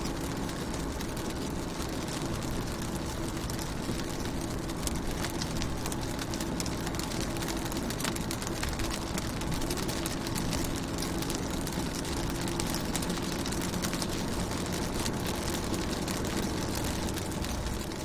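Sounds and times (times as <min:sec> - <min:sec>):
rain pattering on car roof: 0:00.0 - 0:18.0.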